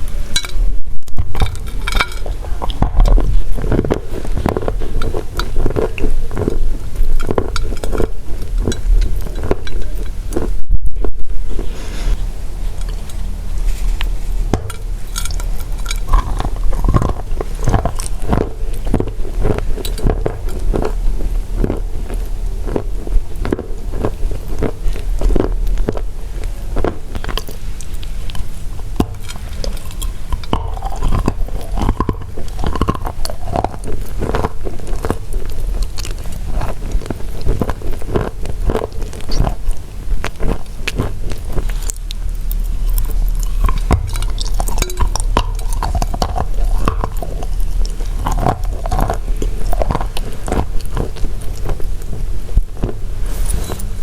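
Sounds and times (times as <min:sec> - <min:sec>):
low hum: 0:00.0 - 0:54.0
chewing crunchy chalk: 0:01.1 - 0:54.0.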